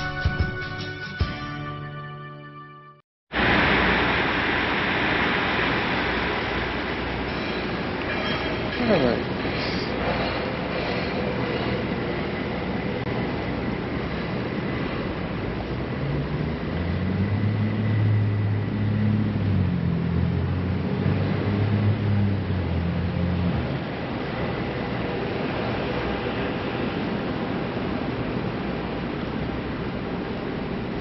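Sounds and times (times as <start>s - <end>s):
heavy vehicle engine drone: 3.3s - 31.0s
street traffic: 3.3s - 31.0s.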